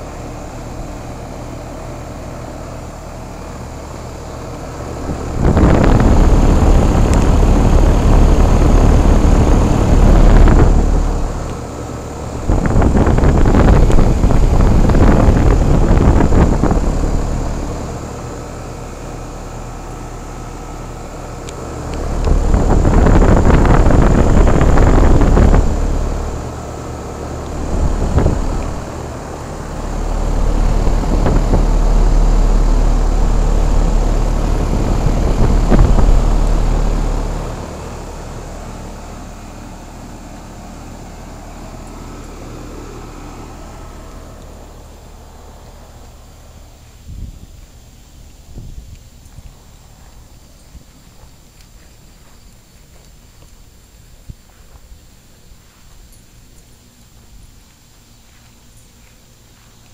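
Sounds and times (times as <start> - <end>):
wind noise on microphone: 0.0 - 39.8, 43.0 - 56.1
air conditioner unit humming: 0.0 - 59.9.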